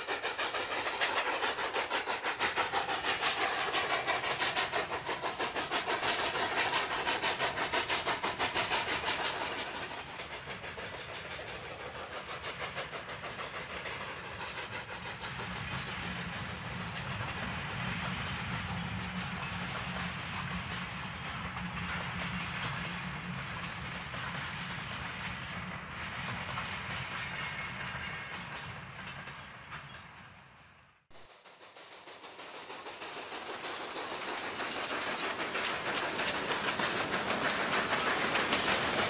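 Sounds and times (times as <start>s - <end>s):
steam hiss: 0.0s - 29.3s, 31.2s - 39.0s
steam locomotive chuffing: 0.0s - 30.4s, 31.1s - 39.0s.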